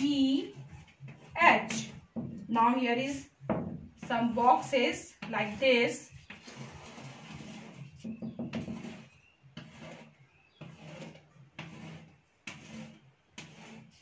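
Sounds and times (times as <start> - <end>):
chalk scraping on blackboard: 0.0 - 2.1, 4.0 - 14.0.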